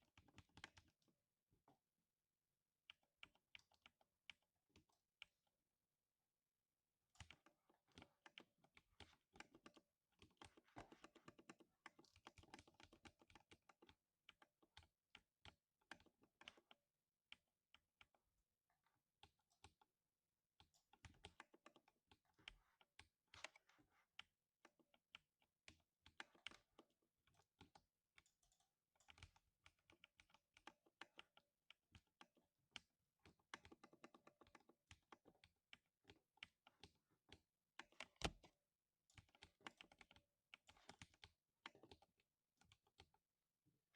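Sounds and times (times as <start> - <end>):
muted keyboard typing: 0.0 - 1.2, 2.8 - 5.4, 7.1 - 43.9.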